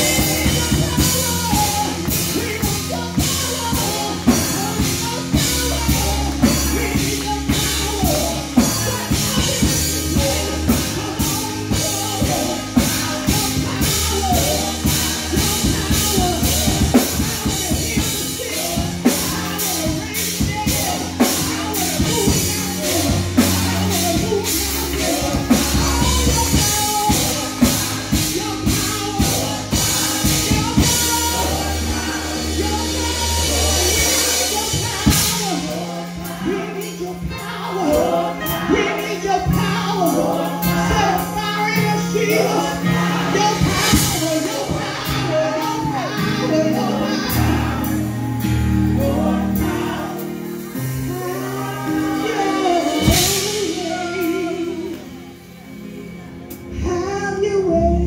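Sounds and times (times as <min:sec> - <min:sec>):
drums and cymbals: 0:00.0 - 0:38.8, 0:39.4 - 0:55.1
held bass notes: 0:00.0 - 0:55.6
backing singers: 0:00.0 - 0:58.0.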